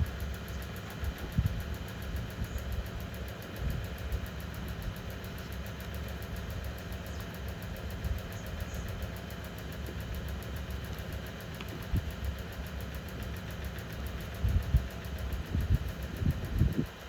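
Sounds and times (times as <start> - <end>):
engine idling low rumble: 0.0 - 17.0.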